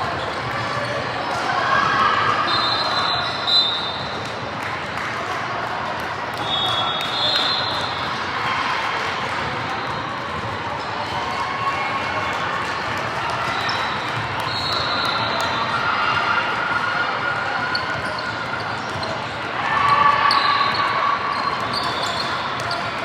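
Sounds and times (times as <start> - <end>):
players and spectators voices: 0.0 - 23.0.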